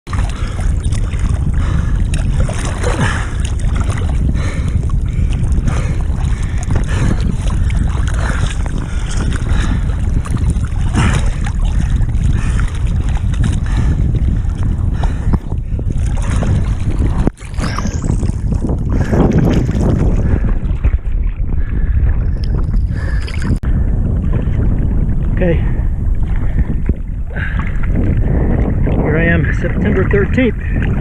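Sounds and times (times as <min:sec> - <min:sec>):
surf sloshing and splashing: 0:00.1 - 0:31.0
wind rumble on microphone: 0:00.1 - 0:31.0.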